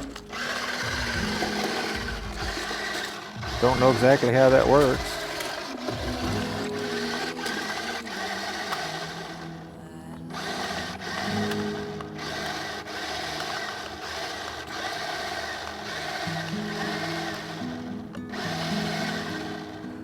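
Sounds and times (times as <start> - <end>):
toy motors whirring: 0.0 - 20.0.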